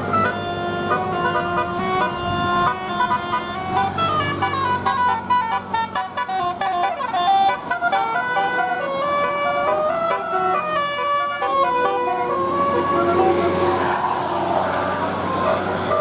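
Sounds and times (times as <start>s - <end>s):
air horns playing a tune: 0.0s - 16.0s.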